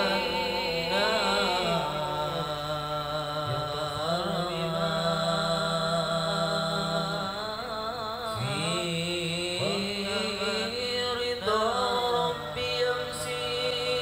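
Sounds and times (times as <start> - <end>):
devotional chant singing: 0.0 - 14.0.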